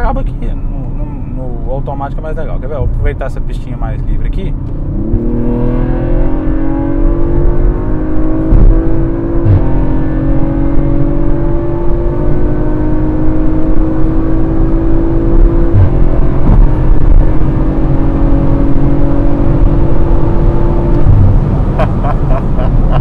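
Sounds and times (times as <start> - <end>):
car engine accelerating hard: 4.1 - 23.0.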